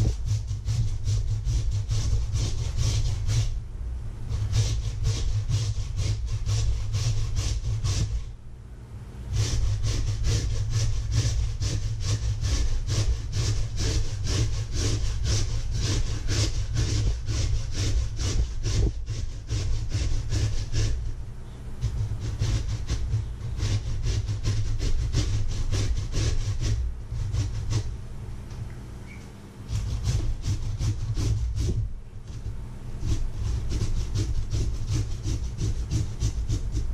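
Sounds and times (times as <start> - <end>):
potato grating on metal grater: 0.0 - 3.6, 4.3 - 8.3, 9.3 - 21.2, 21.8 - 28.0, 29.7 - 36.9
steady low hum: 0.0 - 36.9.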